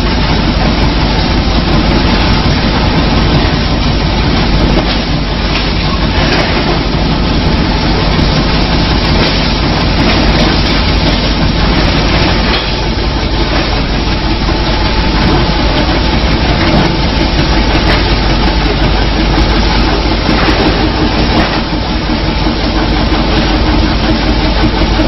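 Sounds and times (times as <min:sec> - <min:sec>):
machinery running: 0:00.0 - 0:25.0.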